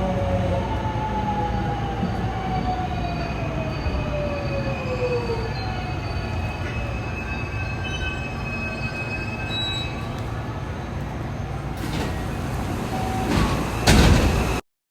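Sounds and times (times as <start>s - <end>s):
train low rumble: 0.0s - 14.6s
train high steady tones: 0.1s - 14.6s.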